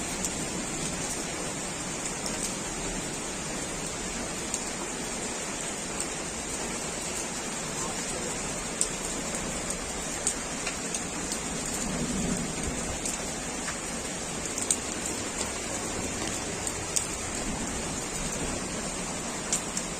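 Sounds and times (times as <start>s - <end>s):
heavy rain downpour hiss: 0.0s - 19.9s.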